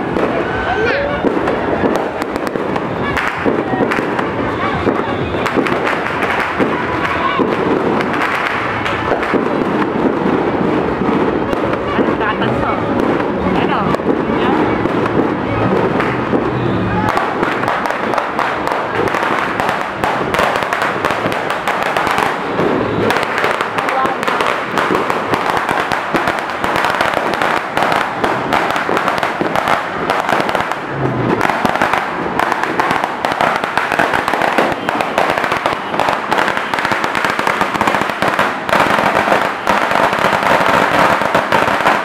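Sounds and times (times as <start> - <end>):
firecracker pops: 1.2 - 42.0.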